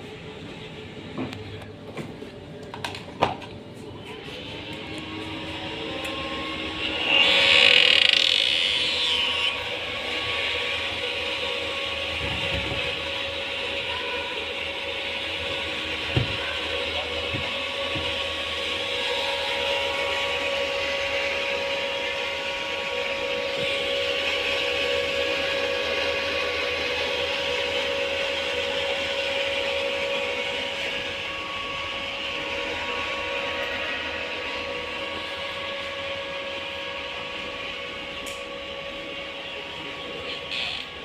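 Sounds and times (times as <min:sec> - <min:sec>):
incubator fan and motor whirring: 0:00.0 - 0:41.0.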